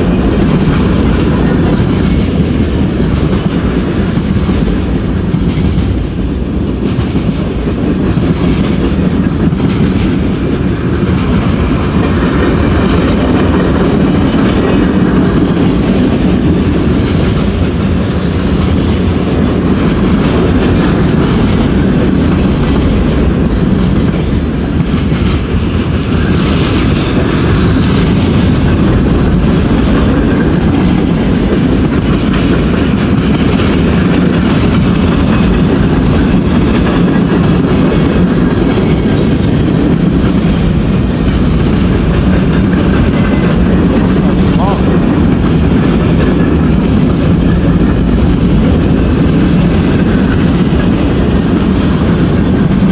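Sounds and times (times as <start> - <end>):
train wheels rumbling on rail: 0.0 - 52.9
wheels clicking over rail joints: 0.0 - 52.9.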